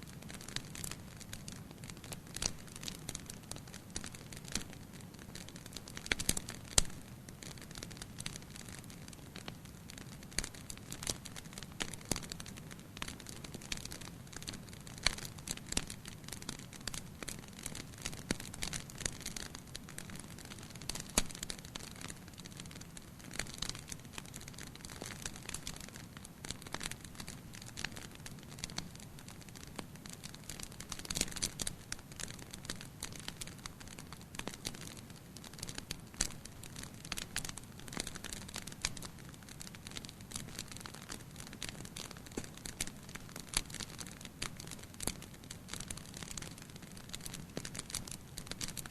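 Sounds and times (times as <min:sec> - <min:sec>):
wood fire crackling and snapping: 0:00.0 - 0:48.9.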